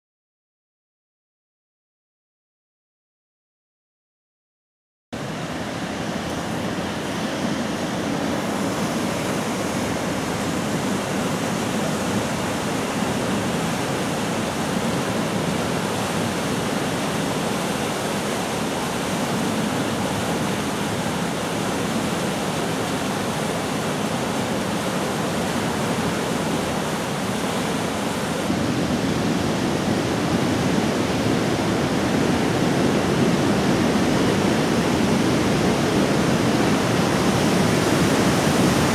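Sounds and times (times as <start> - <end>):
water rushing through rock gorge: 5.2 - 38.9.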